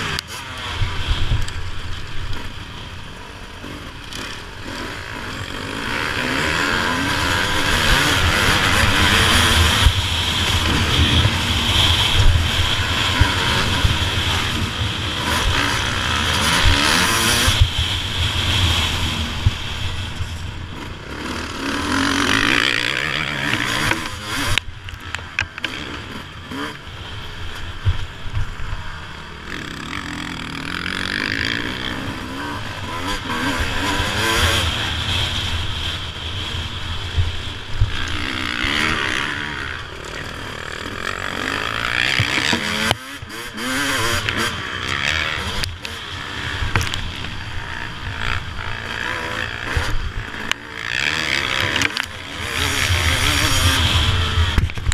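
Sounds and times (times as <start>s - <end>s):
motorcycle engine revving: 0.0s - 54.9s
wind rushing over microphone: 6.4s - 54.9s.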